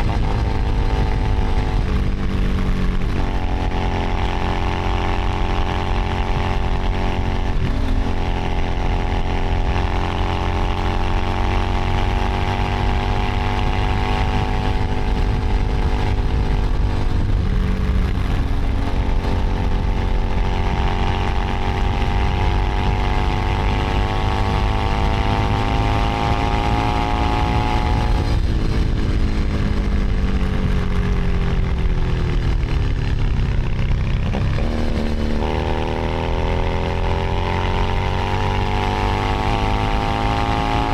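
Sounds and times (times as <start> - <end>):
low wind rumble: 0.0 - 40.9
motorcycle engine revving: 0.0 - 40.9.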